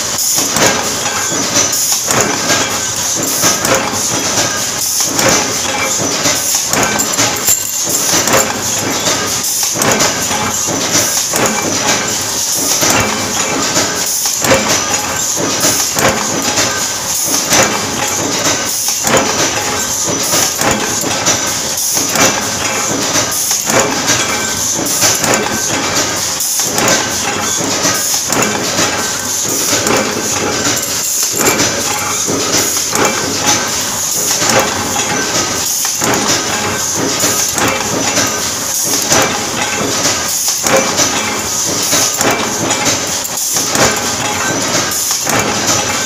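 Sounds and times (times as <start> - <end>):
power press clattering: 0.0 - 46.0
metallic knocks and clinks: 5.1 - 46.0.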